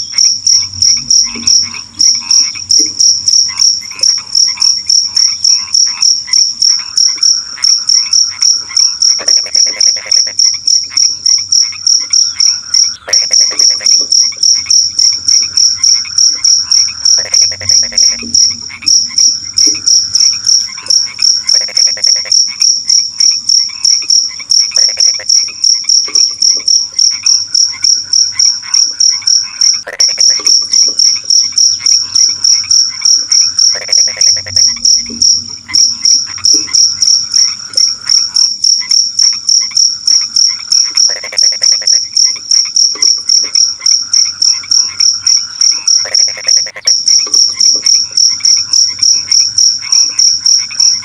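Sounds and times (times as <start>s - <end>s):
cricket chirping: 0.0s - 51.0s
frogs croaking: 0.0s - 51.0s.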